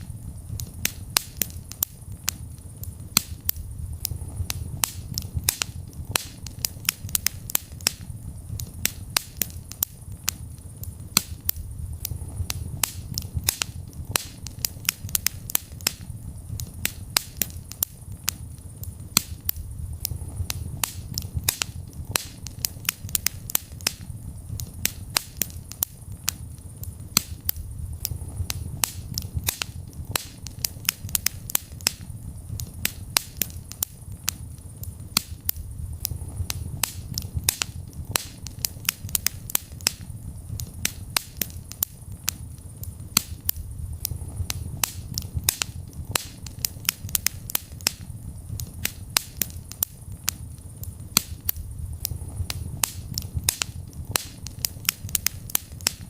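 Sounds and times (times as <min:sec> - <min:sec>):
fire crackling and popping: 0:00.0 - 0:56.0
low rumble of burning: 0:00.0 - 0:56.0.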